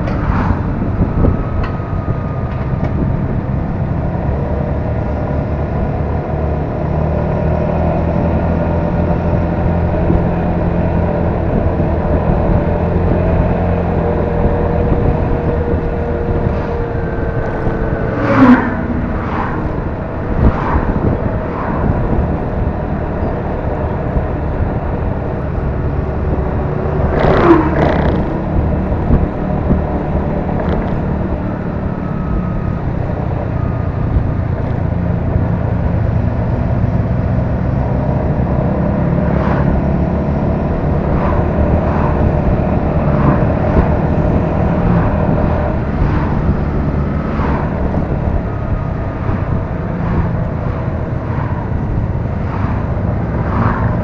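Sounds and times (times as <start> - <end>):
scooter engine cruising: 0.0 - 54.0
wind and road noise: 0.0 - 54.0.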